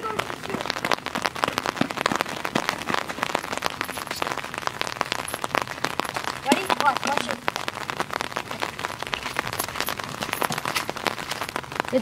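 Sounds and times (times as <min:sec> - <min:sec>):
rain pattering on street: 0:00.0 - 0:12.0.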